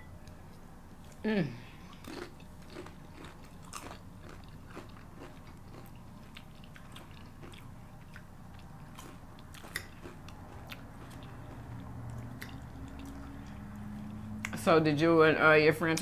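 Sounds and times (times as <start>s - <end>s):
chewing food: 0.2s - 14.6s.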